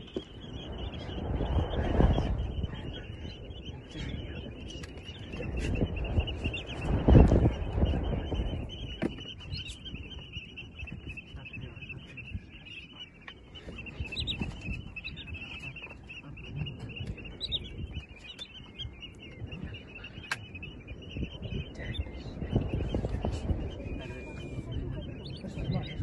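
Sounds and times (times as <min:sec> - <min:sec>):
falling bird call notes: 0:00.0 - 0:26.0
low rumble: 0:00.0 - 0:26.0
shorebirds chirring: 0:00.0 - 0:26.0.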